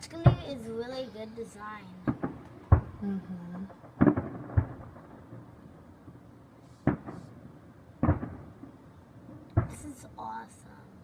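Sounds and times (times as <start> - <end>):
fireworks bursting: 0.0 - 5.8, 6.6 - 10.6.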